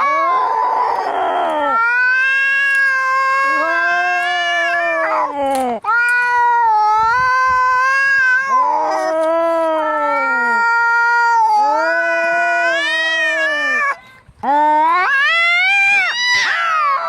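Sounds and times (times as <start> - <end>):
cats yowling: 0.0 - 17.0.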